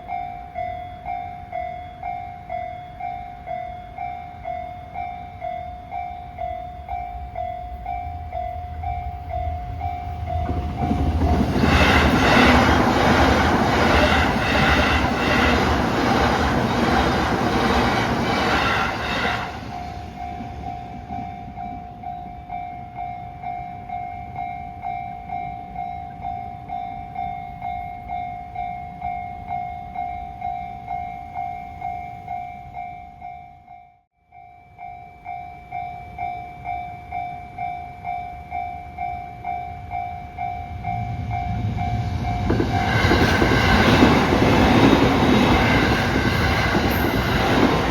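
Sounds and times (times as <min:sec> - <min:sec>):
level crossing warning bell: 0:00.0 - 0:47.9.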